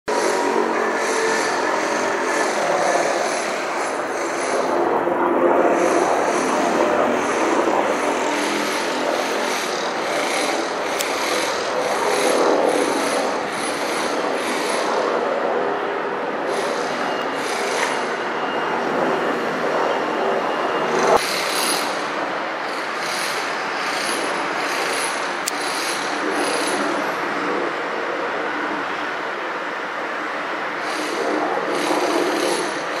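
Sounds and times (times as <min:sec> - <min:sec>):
helicopter rotor rumble: 0:00.1 - 0:33.0.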